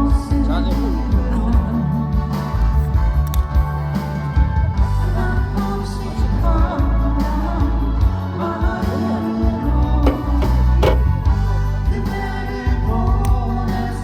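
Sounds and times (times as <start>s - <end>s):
instrumental accompaniment with bass: 0.0s - 14.0s.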